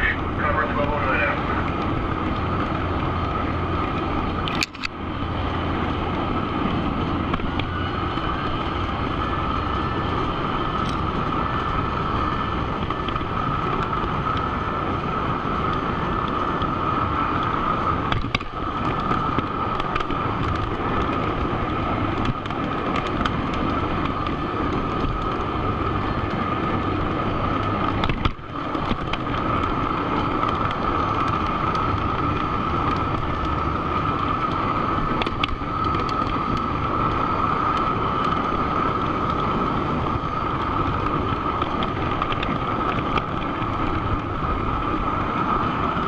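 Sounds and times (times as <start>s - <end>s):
model train wheels rumbling: 0.0s - 46.0s
steady whine: 0.0s - 46.0s.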